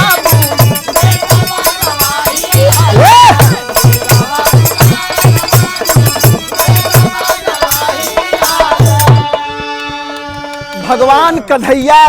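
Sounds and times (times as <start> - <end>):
hand drum beat: 0.0 - 12.0
jingling percussion: 0.0 - 12.0.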